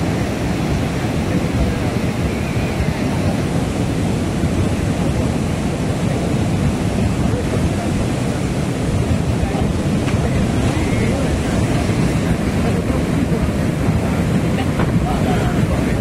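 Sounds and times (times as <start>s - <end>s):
flood water rushing: 0.0s - 16.0s.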